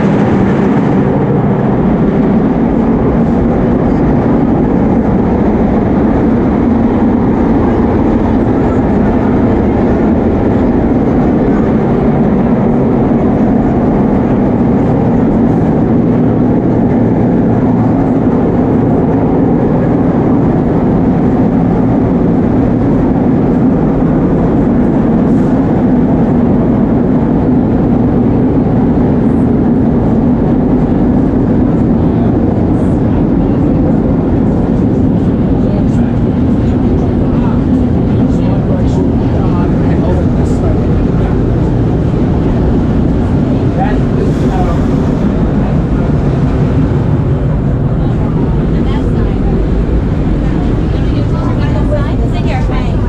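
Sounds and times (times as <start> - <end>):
low hum: 0.0 - 53.0
subway train wheels rumbling: 0.0 - 53.0.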